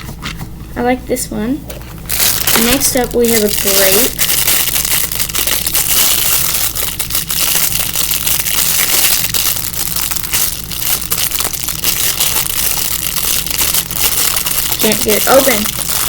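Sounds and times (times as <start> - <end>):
plastic packaging crinkling: 1.8 - 16.0.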